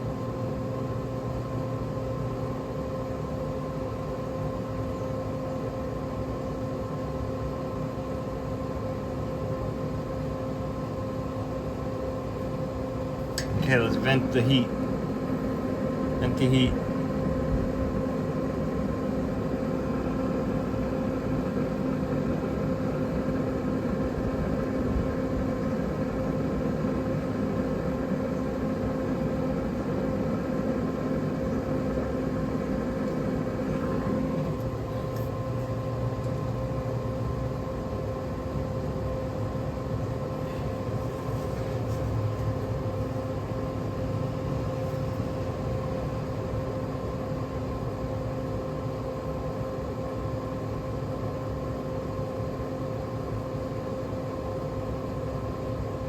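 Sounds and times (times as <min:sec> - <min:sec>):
grill fan and motor hum: 0:00.0 - 0:56.0.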